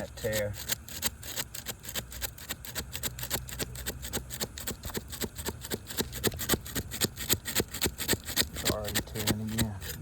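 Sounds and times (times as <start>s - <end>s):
rapid sharp metal clicks: 0.0s - 10.0s.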